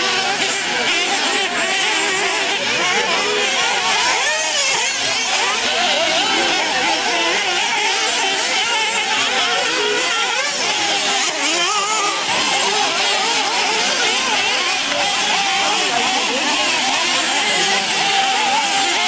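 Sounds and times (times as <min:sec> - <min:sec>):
small rc engines whining: 0:00.0 - 0:19.0.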